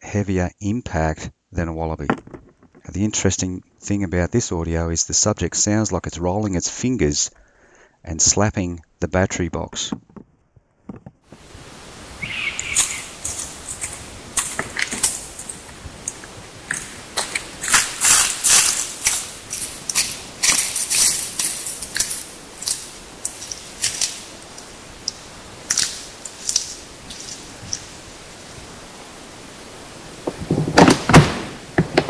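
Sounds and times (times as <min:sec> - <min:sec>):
steady hiss: 0:02.9 - 0:09.2, 0:11.3 - 0:32.0.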